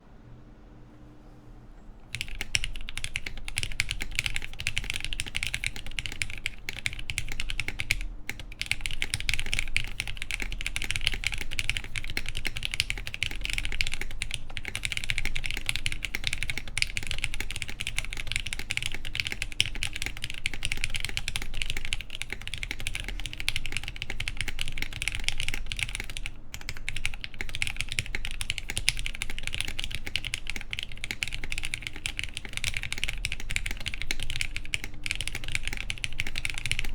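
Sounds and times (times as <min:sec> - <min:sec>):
fast typing on mechanical keyboard: 0:02.1 - 0:36.9.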